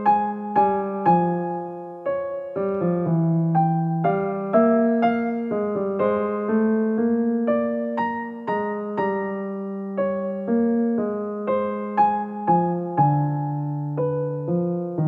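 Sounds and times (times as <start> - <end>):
piano-like keyboard tune: 0.0 - 15.0.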